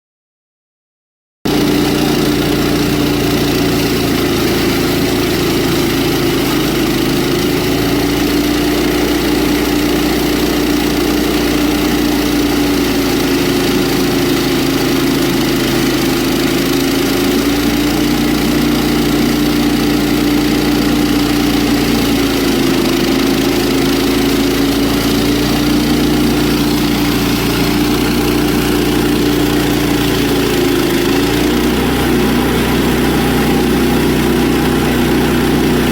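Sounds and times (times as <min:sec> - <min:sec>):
sawmill engine running: 0:01.5 - 0:35.9.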